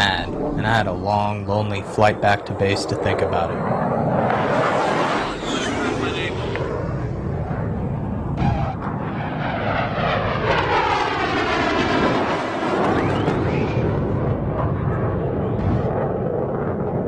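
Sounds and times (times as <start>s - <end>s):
steady rumble: 0.0s - 11.0s, 13.4s - 17.0s
jet aircraft flying past: 0.0s - 17.0s.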